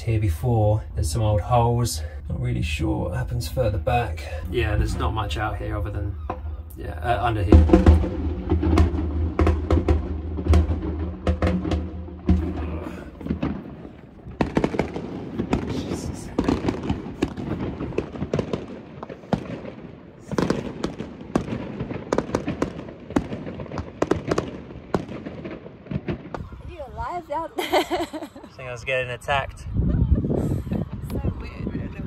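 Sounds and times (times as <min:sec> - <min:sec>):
fireworks bangs and crackles: 0:02.6 - 0:29.0.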